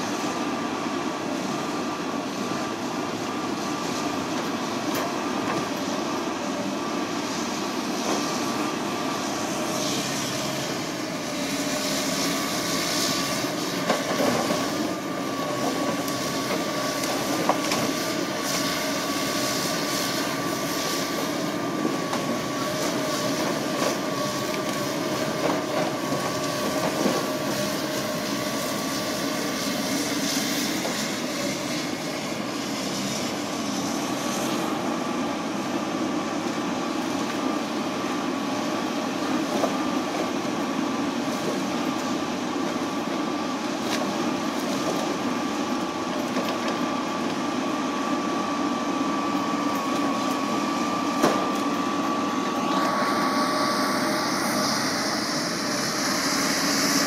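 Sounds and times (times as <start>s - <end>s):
diesel engine running: 0.0s - 57.0s
hydraulic whine: 0.0s - 57.0s.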